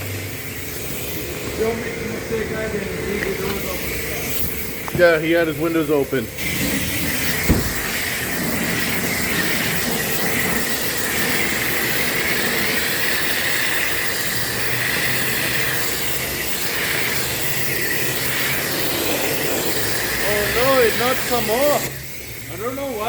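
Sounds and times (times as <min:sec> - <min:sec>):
spray wand hissing: 0:00.0 - 0:23.0.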